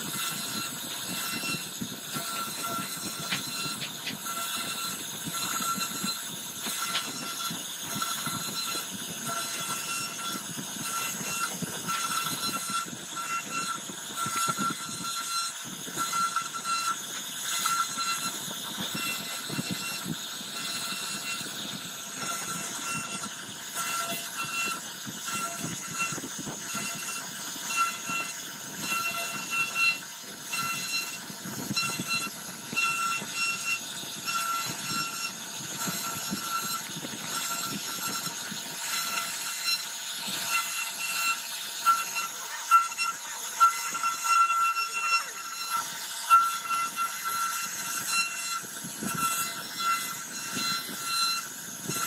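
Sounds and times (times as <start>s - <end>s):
bit cutting wood: 0.0s - 52.0s
router spindle whine: 0.0s - 52.0s.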